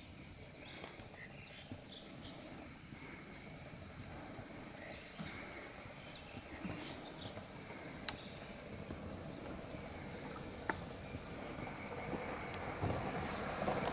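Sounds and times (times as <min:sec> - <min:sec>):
insects droning: 0:00.0 - 0:13.9.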